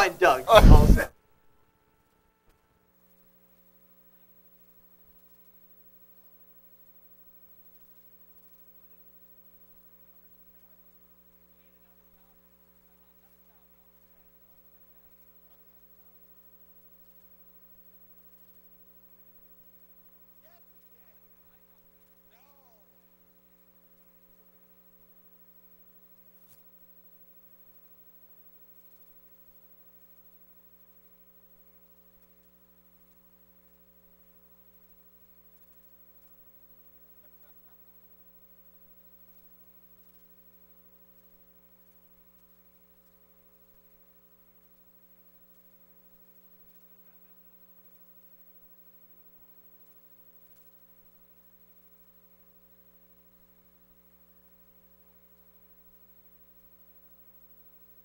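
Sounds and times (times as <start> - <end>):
faint electrical hum: 0.0 - 58.0
faint ticks: 2.5 - 58.0.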